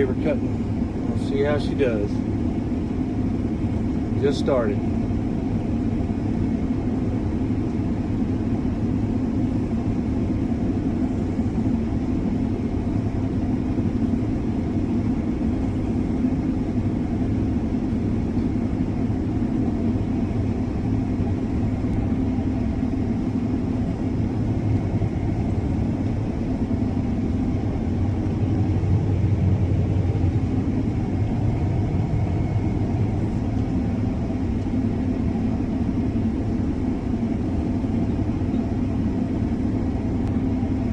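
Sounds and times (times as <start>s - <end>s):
combine harvester engine rumble: 0.0s - 40.9s.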